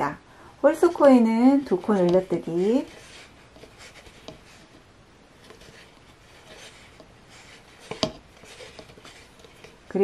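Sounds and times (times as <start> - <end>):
yarn rustling with crochet hook: 0.7 - 10.0.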